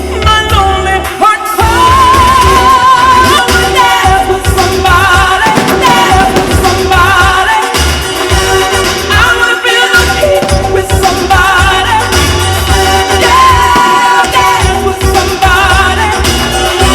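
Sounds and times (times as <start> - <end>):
pop song: 0.0 - 16.9.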